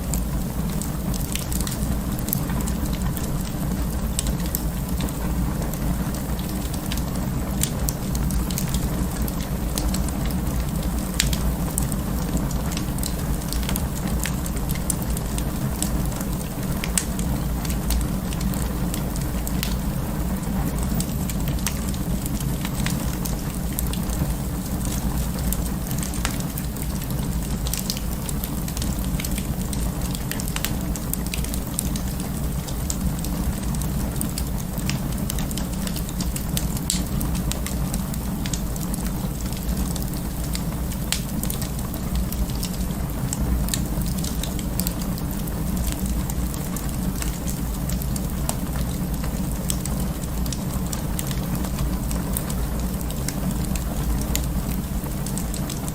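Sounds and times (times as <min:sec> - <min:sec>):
low rumble of flames: 0:00.0 - 0:55.9
wood fire crackling and popping: 0:00.0 - 0:55.9.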